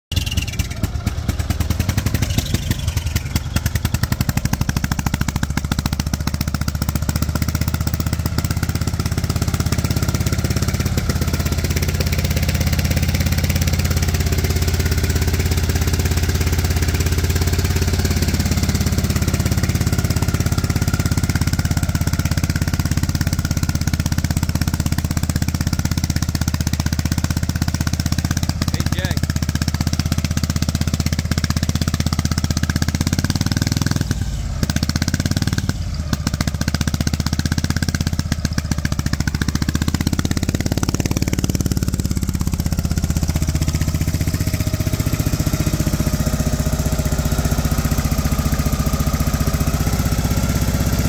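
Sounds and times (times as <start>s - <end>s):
motorcycle engine idling: 0.1s - 51.0s.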